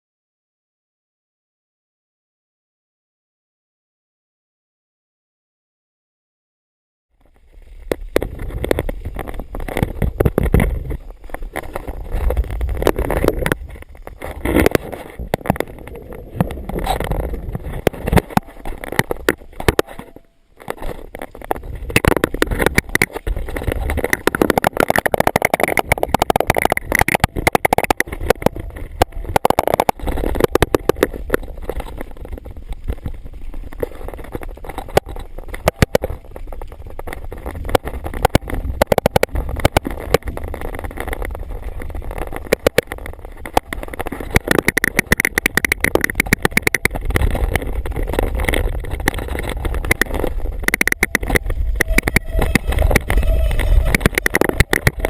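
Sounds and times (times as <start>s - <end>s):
clicks and rattles: 7.2s - 55.0s
wind buffeting microphone: 7.6s - 20.1s, 20.9s - 55.0s.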